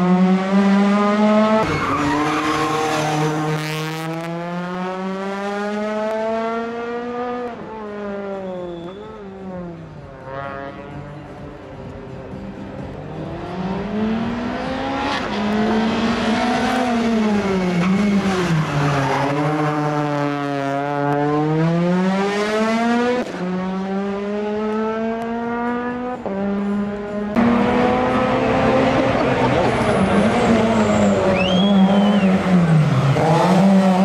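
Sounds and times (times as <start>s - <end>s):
rally car engine revving: 0.0s - 11.4s, 12.4s - 34.0s.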